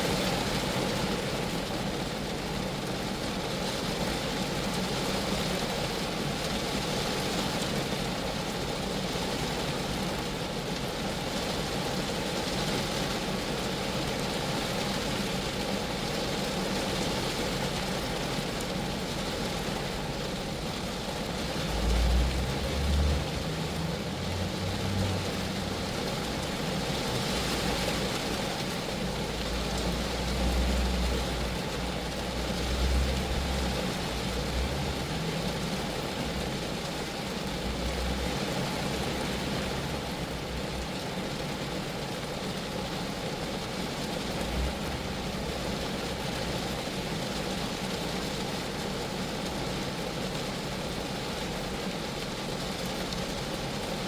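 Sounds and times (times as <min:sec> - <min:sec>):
rain on a car: 0:00.0 - 0:54.0.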